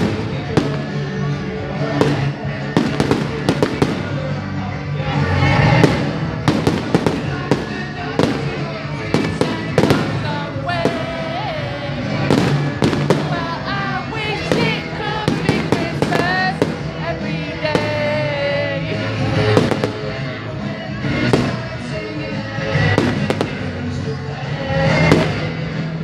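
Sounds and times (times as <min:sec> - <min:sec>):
fireworks bangs and crackles: 0:00.0 - 0:26.0
music: 0:00.0 - 0:26.0
people singing: 0:00.0 - 0:26.0.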